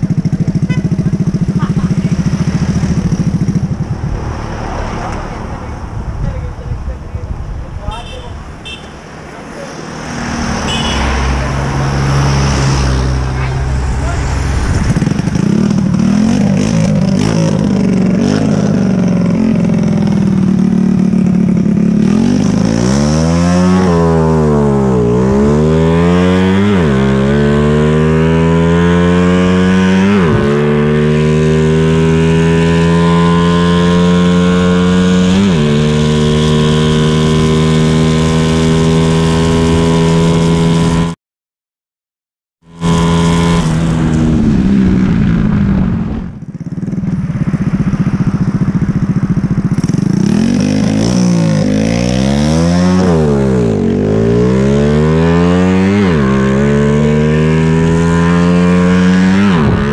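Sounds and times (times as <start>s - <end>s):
motorcycle engine accelerating: 0.0s - 41.2s, 42.6s - 59.9s.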